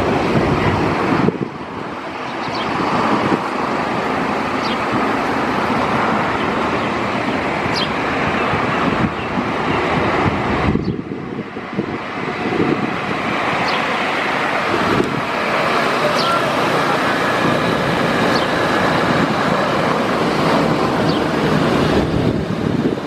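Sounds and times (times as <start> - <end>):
jet engines roaring: 0.0 - 23.0
wind buffeting microphone: 0.0 - 23.0.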